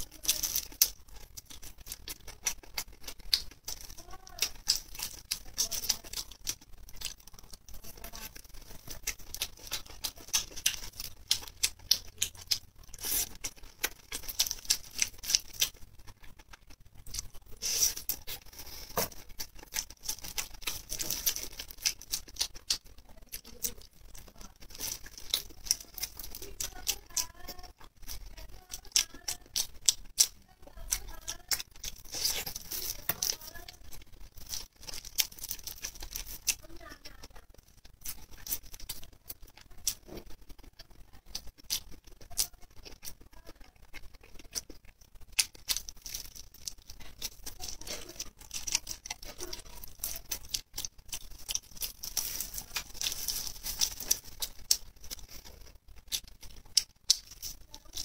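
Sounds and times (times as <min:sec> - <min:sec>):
chewing and lip smacking: 0:00.0 - 0:36.7, 0:37.5 - 0:58.0.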